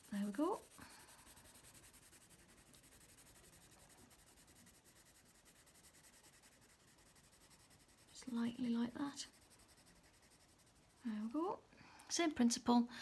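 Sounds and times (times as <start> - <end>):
pencil scratching on paper: 0.0 - 11.5.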